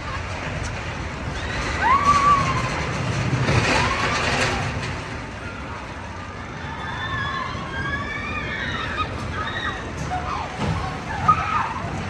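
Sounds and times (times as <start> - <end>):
low mechanical rumble: 0.0 - 12.0
people whooping and yelling: 1.2 - 12.0.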